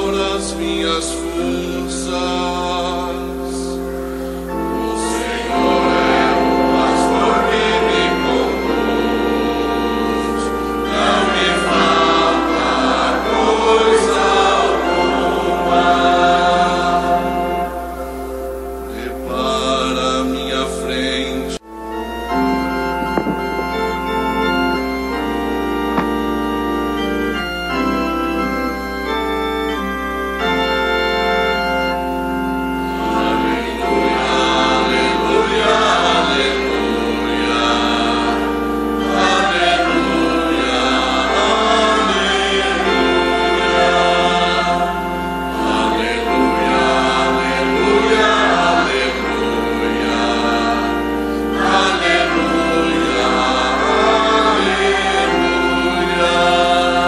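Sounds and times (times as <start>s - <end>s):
choir singing: 0.0s - 57.0s
organ playing held chords: 0.0s - 57.0s.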